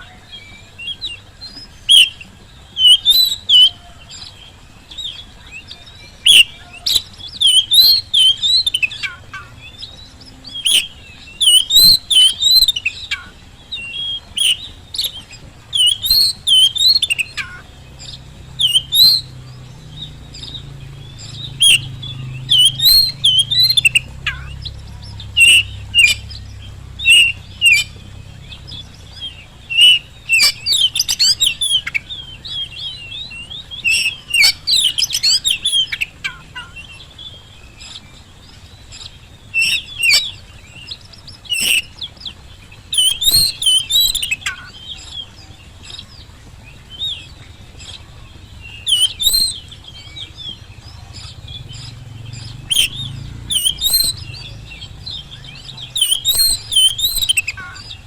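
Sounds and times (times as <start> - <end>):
bird singing whistles and chirps: 0.0 - 58.0
faint low hum: 0.0 - 58.0.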